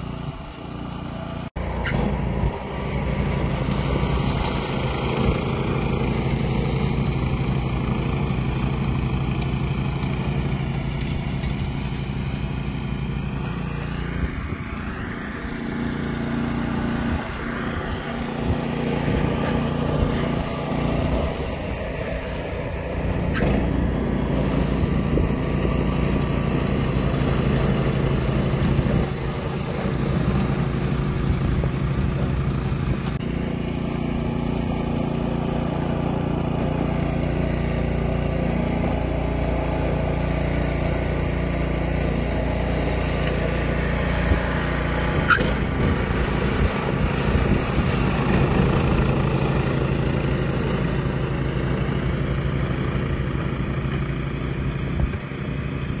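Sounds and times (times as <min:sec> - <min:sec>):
snowblower engine running: 0:00.0 - 0:56.0.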